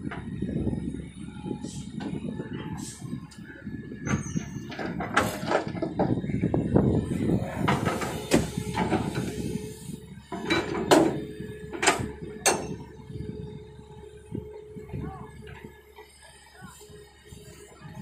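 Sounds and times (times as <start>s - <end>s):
excavator engine and hydraulics: 0.0s - 18.0s.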